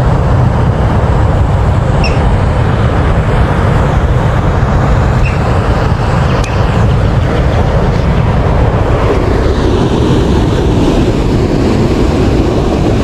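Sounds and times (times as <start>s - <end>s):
water roaring through spillway: 0.0s - 13.0s.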